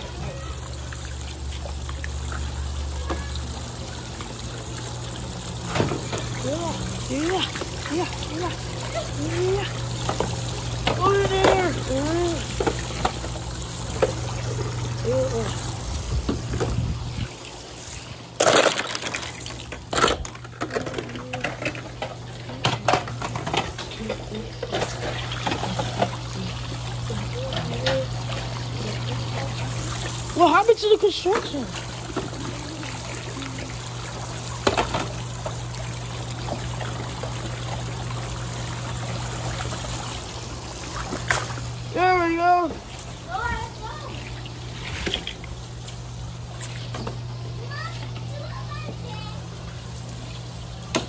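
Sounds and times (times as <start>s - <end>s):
water running and trickling: 0.0s - 51.0s.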